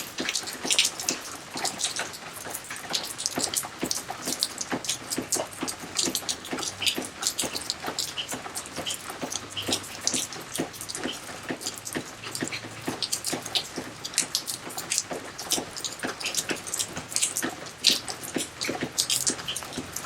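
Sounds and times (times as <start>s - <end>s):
water drops plopping into pond: 0.0s - 20.0s.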